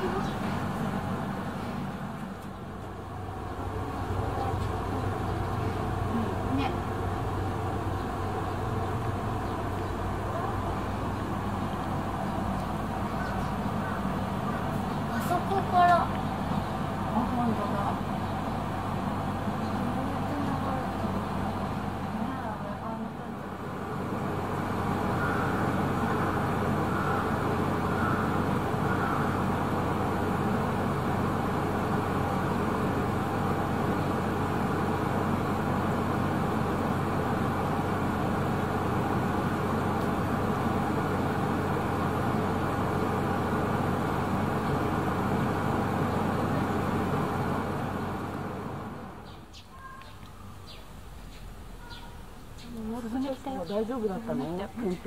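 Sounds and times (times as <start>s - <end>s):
machine running hum and rumble: 0.0s - 55.0s.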